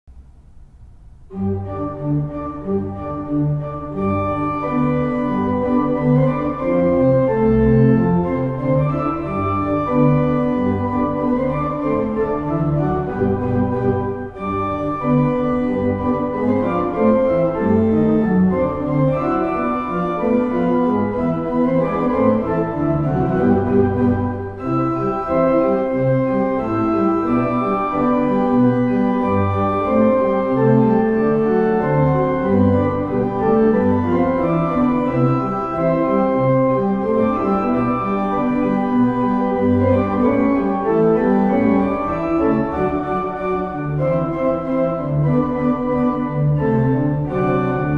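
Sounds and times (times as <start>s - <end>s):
pipe organ pedal notes: 0.4s - 47.9s.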